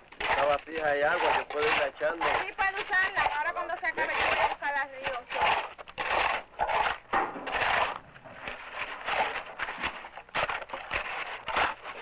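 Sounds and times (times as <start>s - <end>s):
shovel scraping wet cement: 0.0s - 12.0s.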